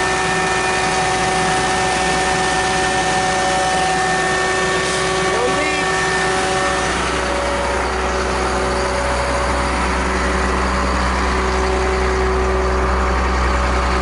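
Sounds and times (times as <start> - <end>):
diesel truck engine idling: 0.0 - 14.0
generator whine: 0.0 - 14.0.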